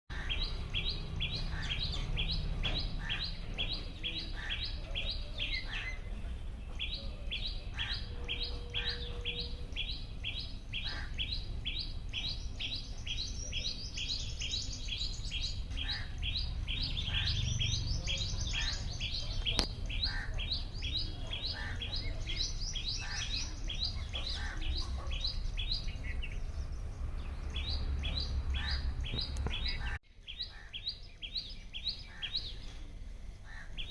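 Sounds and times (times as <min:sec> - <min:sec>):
bird chirping rapidly: 0:00.1 - 0:32.6.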